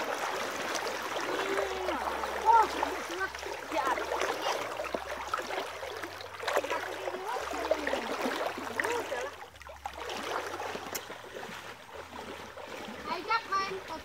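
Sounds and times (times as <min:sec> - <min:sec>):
water splashing and sloshing: 0:00.0 - 0:14.0
water trickling and gurgling: 0:00.0 - 0:14.0.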